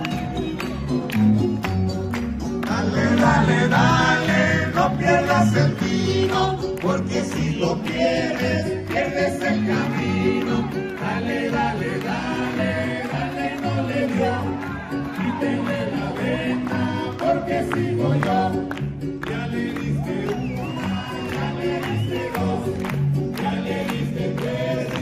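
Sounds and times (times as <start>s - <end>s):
group singing festive music: 0.0s - 25.0s.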